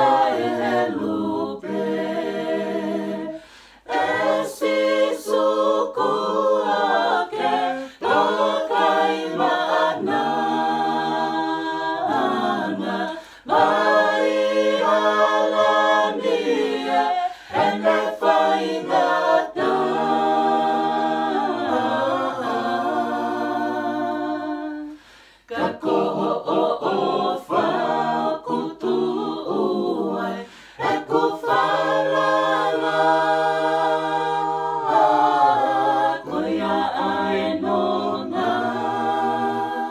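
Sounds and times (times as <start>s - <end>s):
group singing a cappella: 0.0s - 39.9s.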